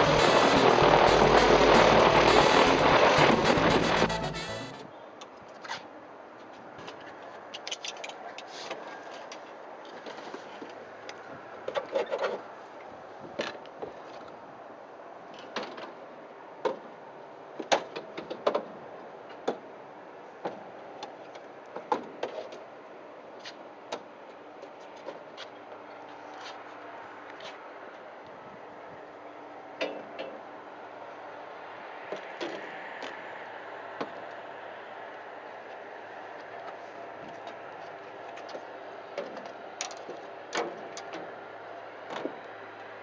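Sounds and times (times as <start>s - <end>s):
steady outdoor hiss: 0.0s - 11.7s, 12.4s - 43.0s.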